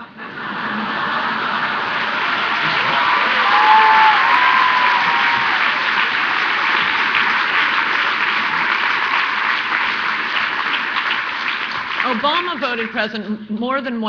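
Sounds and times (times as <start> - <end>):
audience applauding: 0.4 - 13.1.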